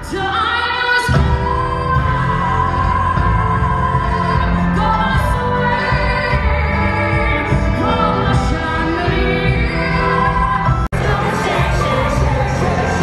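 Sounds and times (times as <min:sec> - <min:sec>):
music with singing voice: 0:00.0 - 0:13.0.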